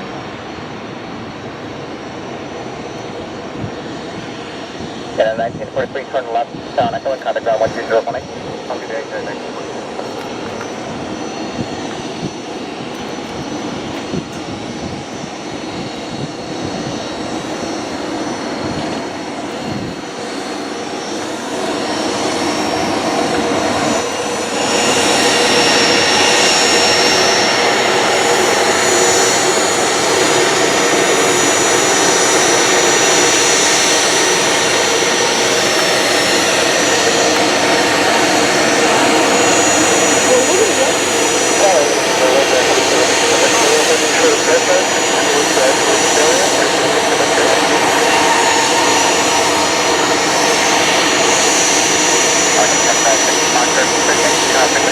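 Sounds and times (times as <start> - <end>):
high engine whine: 0.0 - 54.9
jet engines running: 0.0 - 54.9.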